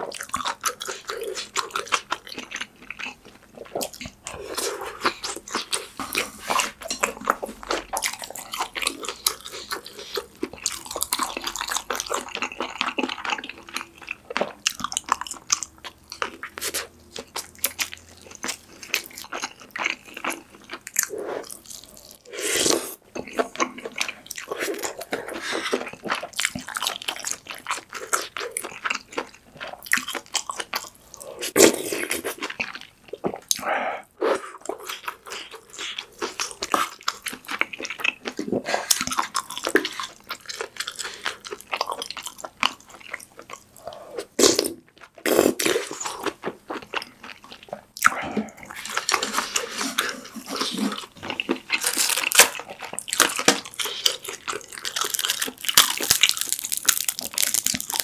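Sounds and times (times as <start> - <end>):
wet chewing and crunching: 0.0 - 33.7, 34.4 - 58.0.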